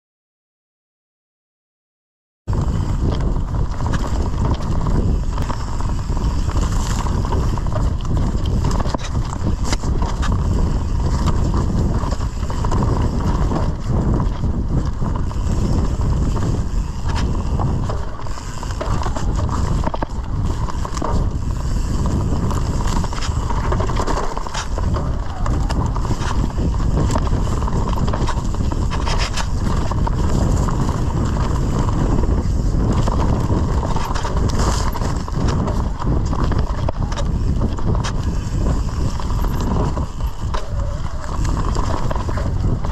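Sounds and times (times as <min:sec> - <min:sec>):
bike frame and chain clattering: 0:02.5 - 0:42.9
tyres rumbling over dirt: 0:02.5 - 0:42.9.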